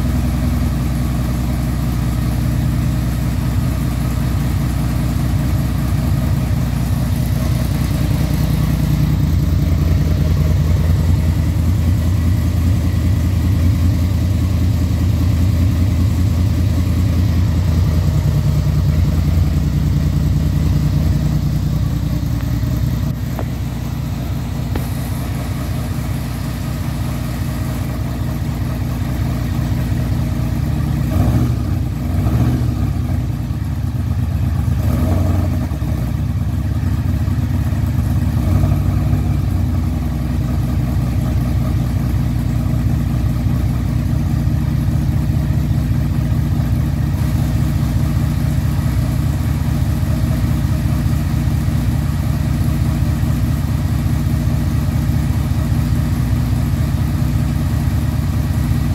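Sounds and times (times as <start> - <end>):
motorcycle engine idling rough: 0.0 - 58.9.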